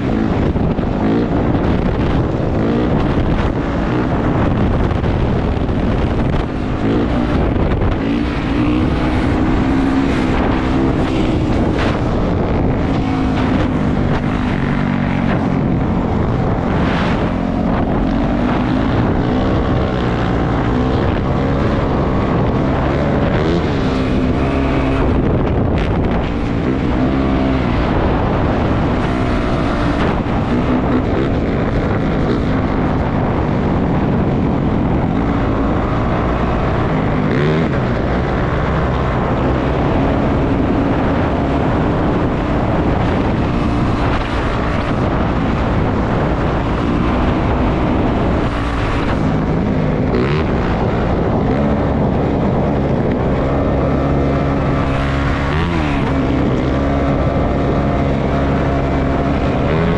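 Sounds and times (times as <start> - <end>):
dirt bike engine revving: 0.0 - 59.9
wind rushing over microphone: 0.0 - 59.9.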